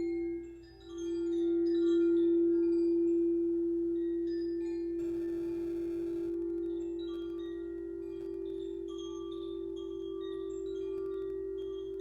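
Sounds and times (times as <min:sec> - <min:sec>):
singing bowl sustained tone: 0:00.0 - 0:12.0.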